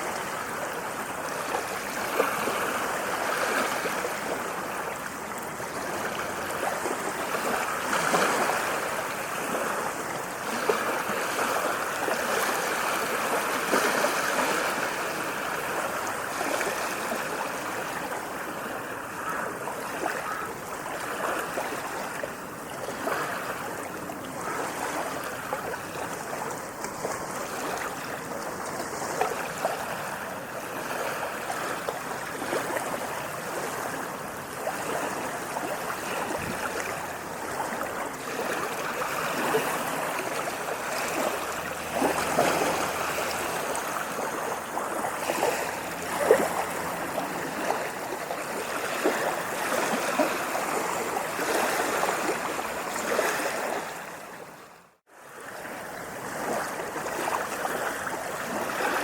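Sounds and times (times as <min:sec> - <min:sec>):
sea waves washing: 0:00.0 - 0:59.0.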